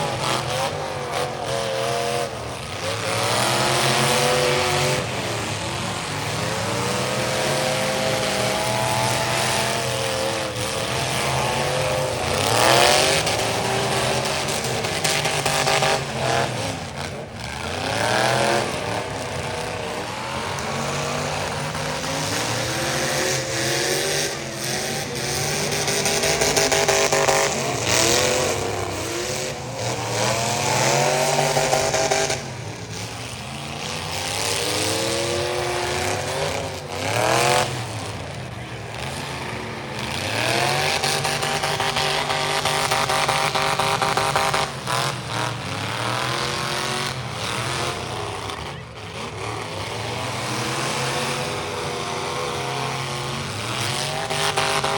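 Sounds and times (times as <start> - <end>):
car engines revving hard: 0.0 - 54.9.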